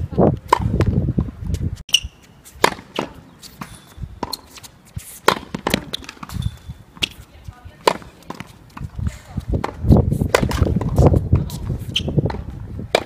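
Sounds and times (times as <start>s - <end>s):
tennis balls bouncing on court: 0.4s - 13.0s
tennis balls struck by rackets: 1.6s - 13.0s.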